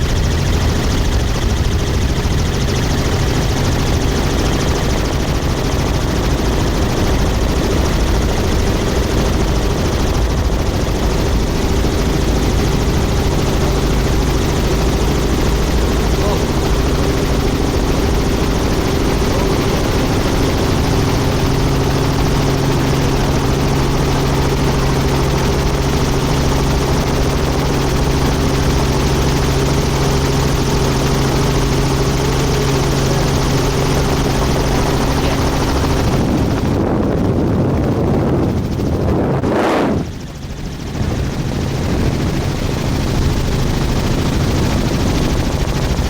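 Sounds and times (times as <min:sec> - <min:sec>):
helicopter rotor and engine drone: 0:00.0 - 0:46.0.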